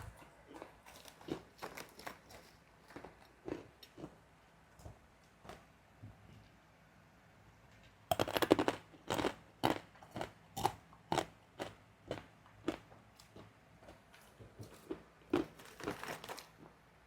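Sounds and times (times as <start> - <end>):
person chewing crunchy crackers: 0.0 - 5.0, 8.1 - 16.8.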